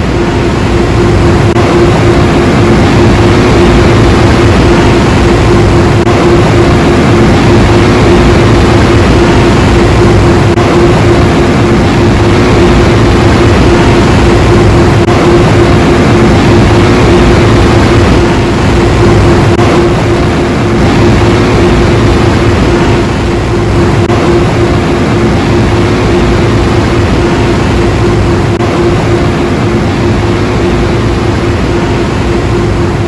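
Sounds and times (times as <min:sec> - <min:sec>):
constant hum: 0:00.0 - 0:33.0.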